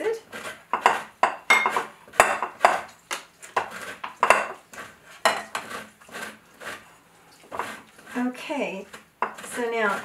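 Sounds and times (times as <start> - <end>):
orange scraping on metal grater: 0.0 - 10.0.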